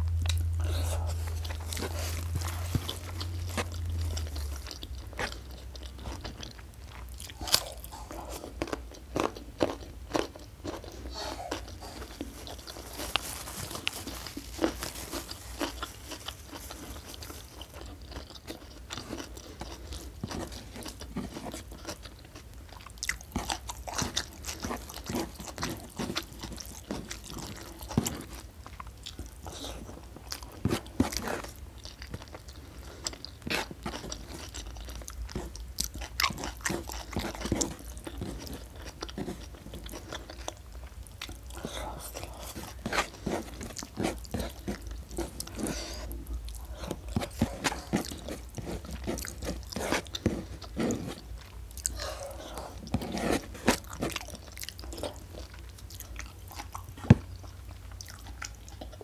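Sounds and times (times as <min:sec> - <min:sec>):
chewing food: 0:00.0 - 0:59.0.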